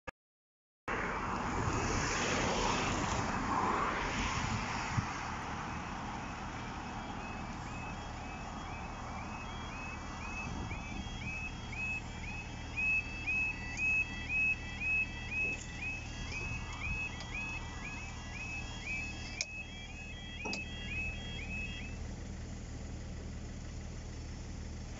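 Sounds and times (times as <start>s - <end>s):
road traffic passing: 0.9s - 24.9s
warbling crossing alarm: 1.6s - 22.1s.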